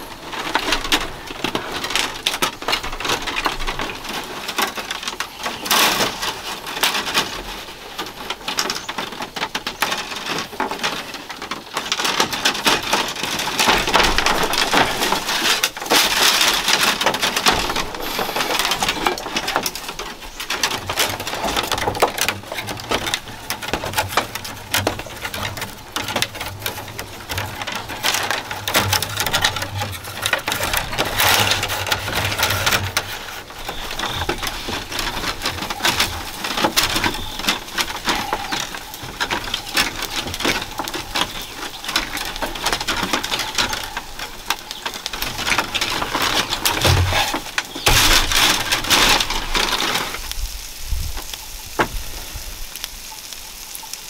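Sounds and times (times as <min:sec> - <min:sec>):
bamboo strips clicking and scraping: 0:00.0 - 0:54.0.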